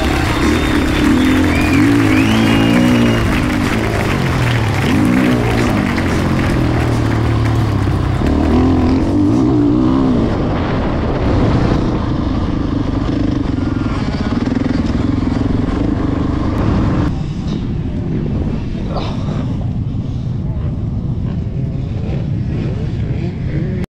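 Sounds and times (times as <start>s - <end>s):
motorcycle engine revving: 0.0s - 17.2s, 20.9s - 23.9s.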